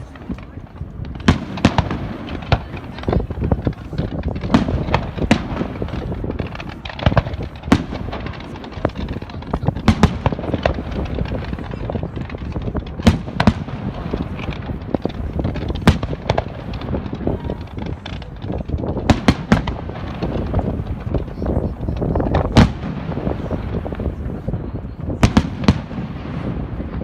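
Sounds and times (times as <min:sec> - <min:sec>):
fireworks bangs: 0:00.0 - 0:27.0
fireworks rumble and crackle: 0:00.0 - 0:27.0.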